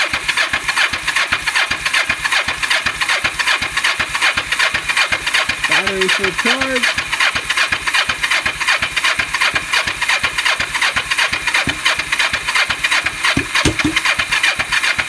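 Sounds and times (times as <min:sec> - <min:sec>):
motorcycle engine cranking: 0:00.0 - 0:15.0.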